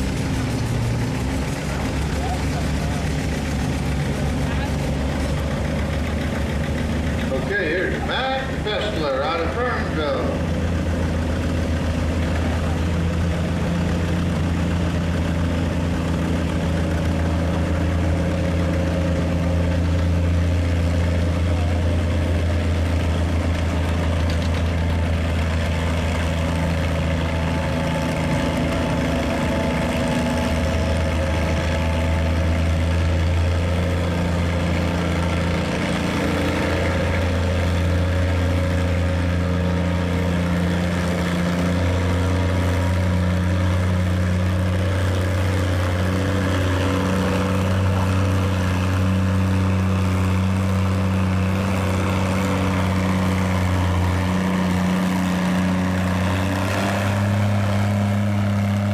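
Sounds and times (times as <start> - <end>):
tractor engine running hard: 0.0 - 58.9.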